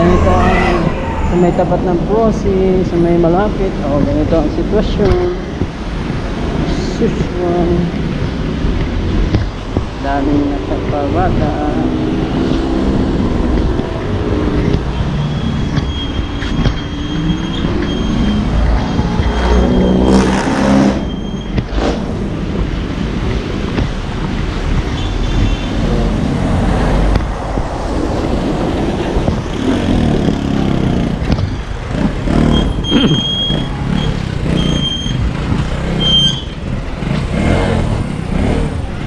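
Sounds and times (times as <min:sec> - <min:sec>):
vehicles passing on wet road: 0:00.0 - 0:39.0.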